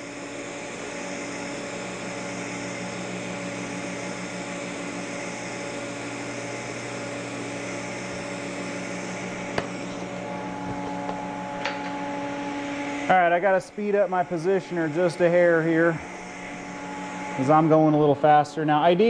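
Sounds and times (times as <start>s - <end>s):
welding arc hum and hiss: 0.0s - 19.0s.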